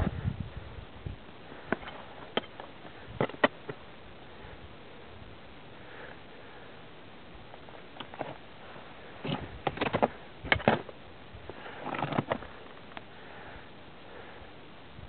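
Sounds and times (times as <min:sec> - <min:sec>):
rustling and crackling on microphone: 0:00.0 - 0:14.4
steady hiss: 0:00.0 - 0:15.0.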